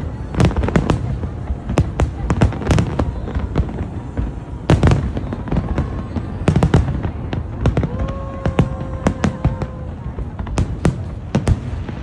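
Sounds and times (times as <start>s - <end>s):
fireworks bursting bangs: 0.0s - 12.0s.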